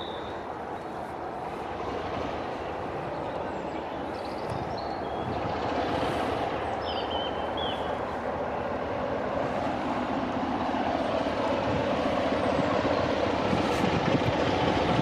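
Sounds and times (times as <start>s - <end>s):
diesel locomotive engine idling: 0.0s - 15.0s.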